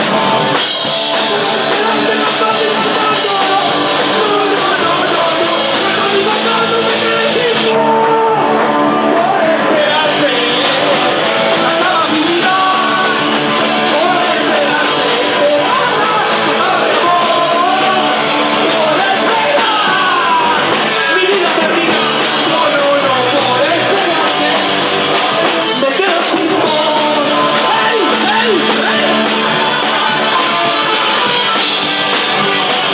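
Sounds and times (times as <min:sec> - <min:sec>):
punk rock band playing live: 0:00.0 - 0:32.9
person singing near-shouted vocals: 0:01.1 - 0:24.8, 0:25.7 - 0:32.2.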